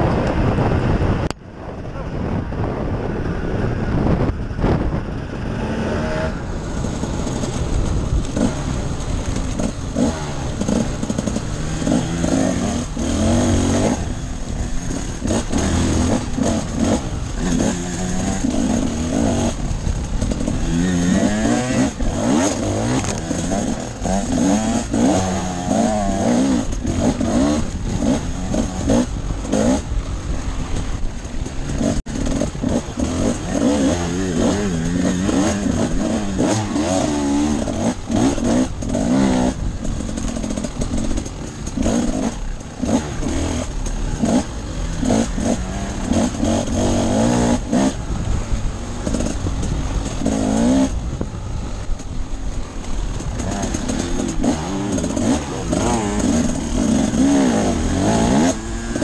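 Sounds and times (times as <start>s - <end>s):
motorcycle engine revving: 1.9s - 59.0s.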